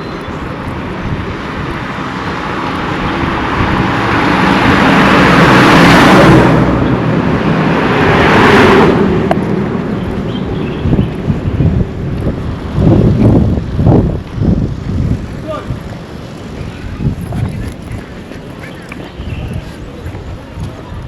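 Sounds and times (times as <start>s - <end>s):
tyre noise on road: 0.0s - 21.0s
vehicles passing: 0.0s - 21.0s.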